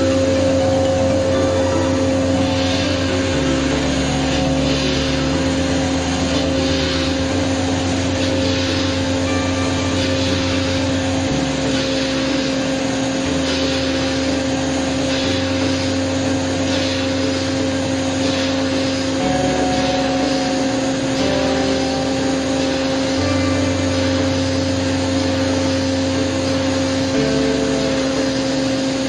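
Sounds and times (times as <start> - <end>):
metal cutting hiss: 0.0 - 29.0
milling machine spindle tone: 0.0 - 29.0.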